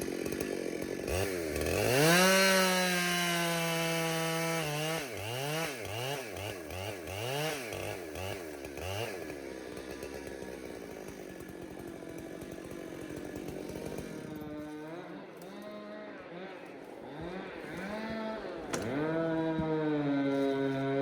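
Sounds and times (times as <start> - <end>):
chainsaw revving and idling: 0.0 - 21.0.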